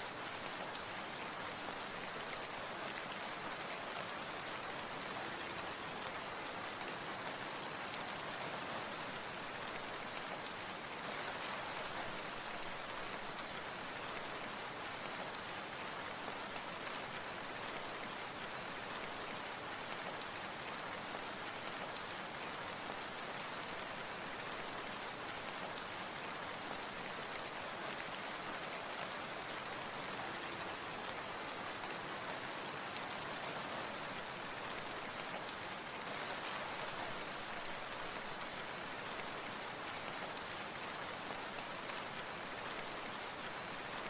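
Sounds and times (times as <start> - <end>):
steady rain hiss: 0.0 - 44.0.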